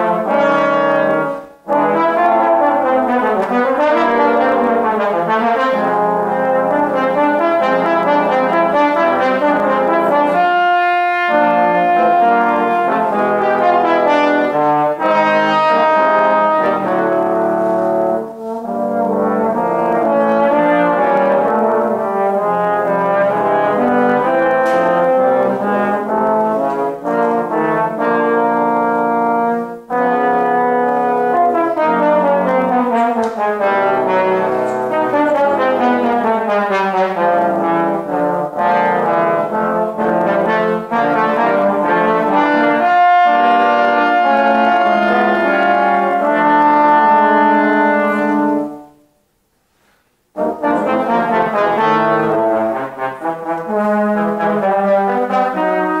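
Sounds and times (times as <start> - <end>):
trombones playing chords: 0.0 - 49.4, 50.2 - 56.0.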